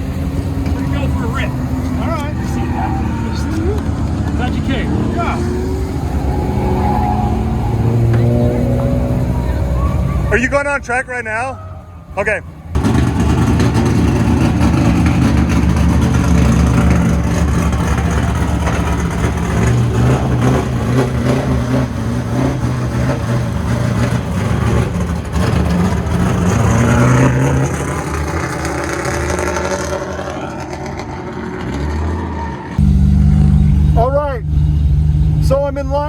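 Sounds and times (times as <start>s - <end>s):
car engine revving: 0.0s - 11.3s, 12.2s - 36.0s.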